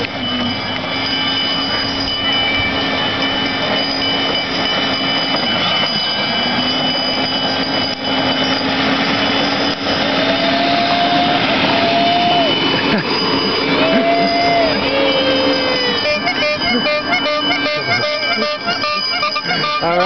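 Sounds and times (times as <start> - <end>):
constant whine: 0.0 - 20.0
golf cart motor drone: 0.0 - 20.0.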